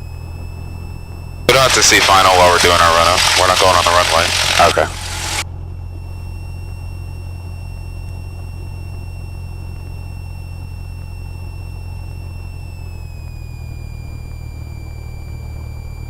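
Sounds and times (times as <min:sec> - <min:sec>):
high engine whine: 0:00.0 - 0:16.0
light aircraft engine droning: 0:00.0 - 0:16.0.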